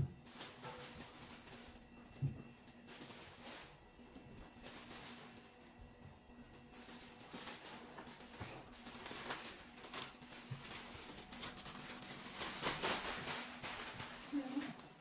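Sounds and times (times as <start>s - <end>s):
plastic bags rustling and crinkling: 0.0s - 15.0s.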